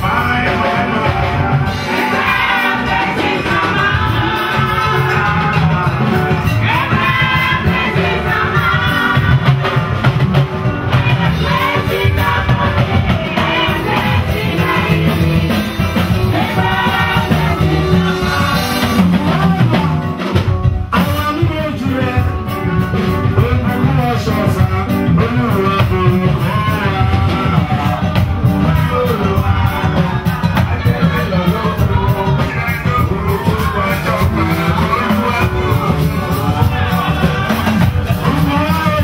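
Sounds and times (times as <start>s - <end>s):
drum kit: 0.0s - 39.0s
people singing worship music: 0.0s - 39.0s.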